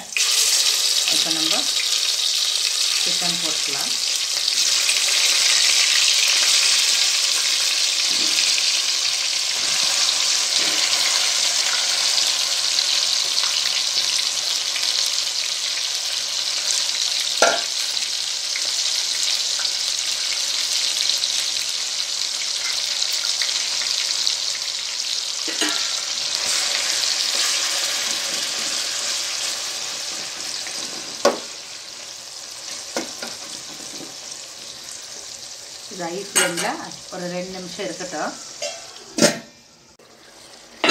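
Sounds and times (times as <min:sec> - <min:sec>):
chicken sizzling in hot oil: 0:00.0 - 0:39.2, 0:40.0 - 0:40.9.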